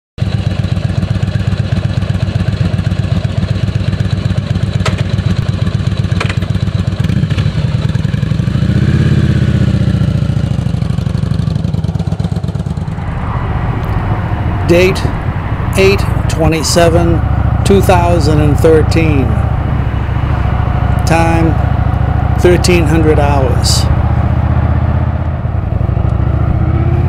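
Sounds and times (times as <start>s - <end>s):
motorcycle engine idling: 0.2s - 26.2s.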